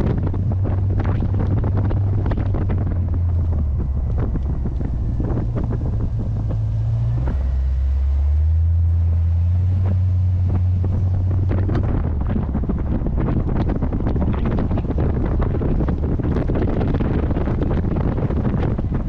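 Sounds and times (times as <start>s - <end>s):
car engine running: 0.0s - 19.0s
wind buffeting on microphone: 0.0s - 19.0s.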